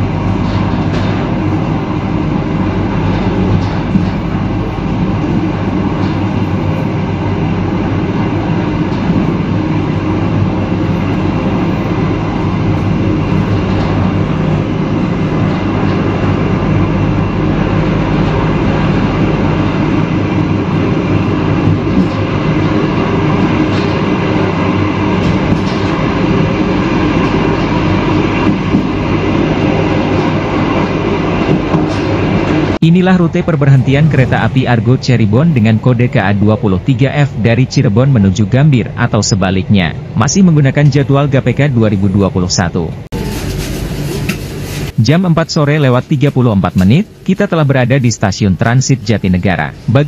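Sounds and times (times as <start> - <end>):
train rumbling on track: 0.0 - 50.0.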